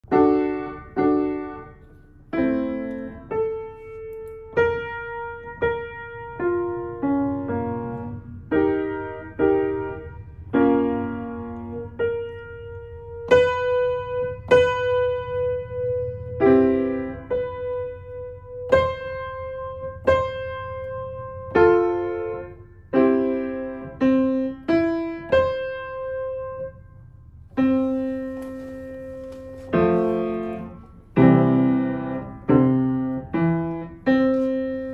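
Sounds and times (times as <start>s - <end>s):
piano notes and chords: 0.0s - 34.9s.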